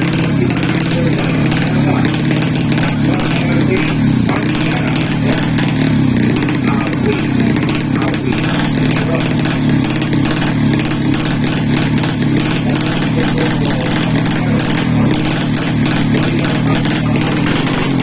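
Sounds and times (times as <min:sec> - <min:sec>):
background voices: 0:00.0 - 0:18.0
motorcycle engine buzzing: 0:00.0 - 0:18.0.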